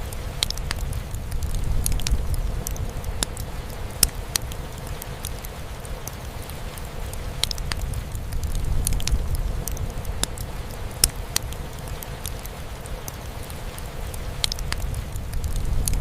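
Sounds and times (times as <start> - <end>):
rain drumming on a roof: 0.0 - 16.0
wood fire crackling: 0.0 - 16.0.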